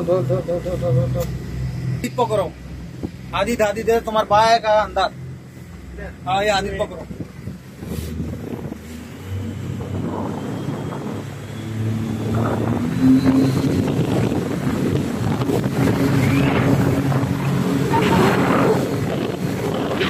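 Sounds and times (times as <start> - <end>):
jet boat engine running: 0.0 - 20.0
wind buffeting microphone: 1.4 - 4.5, 6.2 - 20.0.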